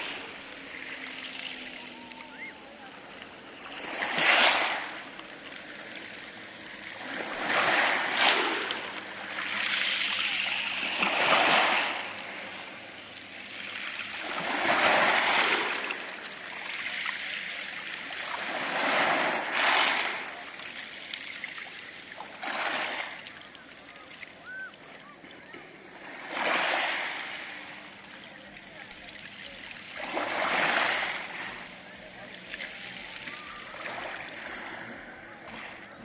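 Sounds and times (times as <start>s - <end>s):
waves washing over pebble beach: 0.0s - 20.8s, 22.3s - 23.3s, 26.0s - 28.0s, 29.9s - 35.7s.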